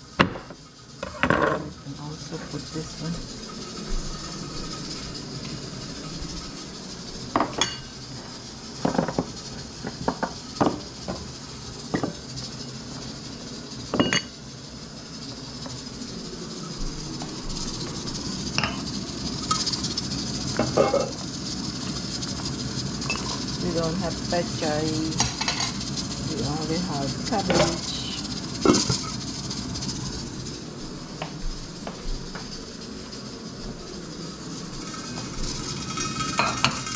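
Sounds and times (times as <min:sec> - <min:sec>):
pot of soup boiling hiss: 0:00.0 - 0:36.9.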